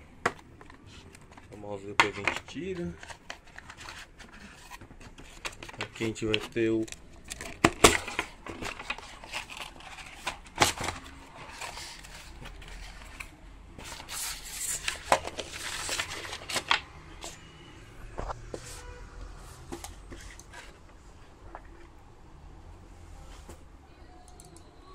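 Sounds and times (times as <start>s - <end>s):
cardboard rustling and scraping: 0.4s - 17.4s, 18.2s - 21.7s.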